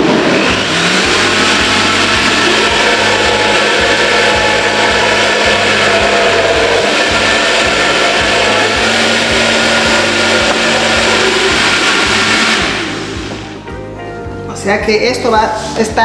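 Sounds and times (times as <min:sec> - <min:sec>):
blender churning thick sauce: 0:00.0 - 0:13.5.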